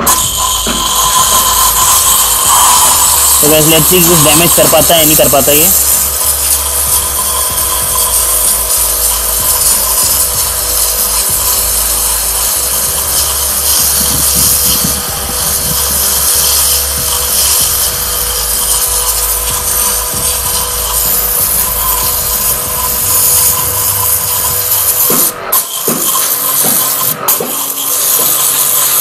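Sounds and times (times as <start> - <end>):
pressure washer motor whine: 0.0 - 29.0
water jet hissing against brick: 0.0 - 29.0.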